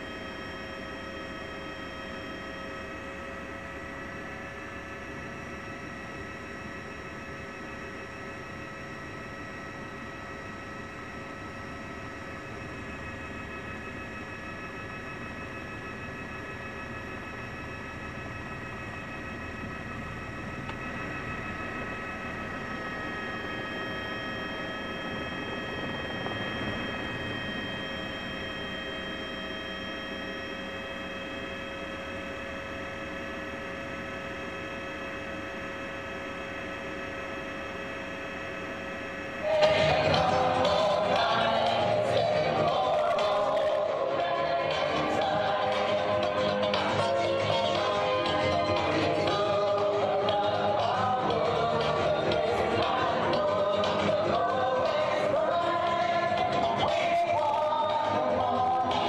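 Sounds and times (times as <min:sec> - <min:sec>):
mechanical hum and whine: 0:00.0 - 0:59.0.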